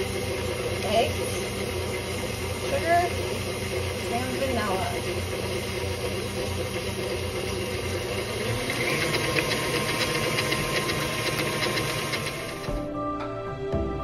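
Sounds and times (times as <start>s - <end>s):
stand mixer motor humming: 0.0s - 12.9s.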